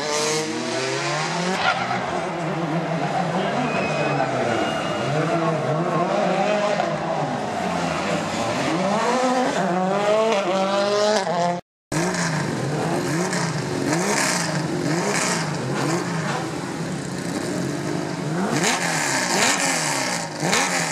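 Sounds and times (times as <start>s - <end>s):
rally car engines revving: 0.0s - 20.9s.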